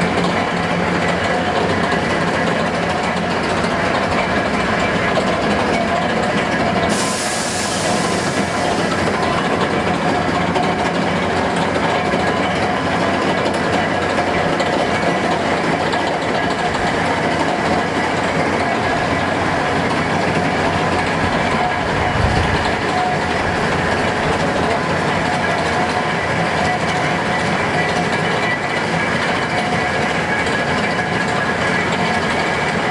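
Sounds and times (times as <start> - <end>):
railway turntable rumbling and grinding: 0.0 - 32.9.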